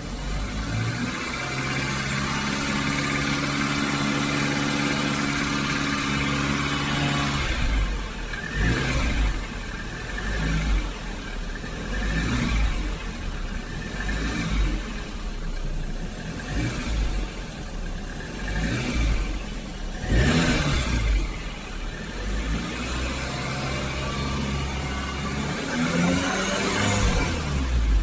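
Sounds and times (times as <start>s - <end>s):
car engine running: 0.0s - 28.0s
engine ticking: 0.0s - 28.0s.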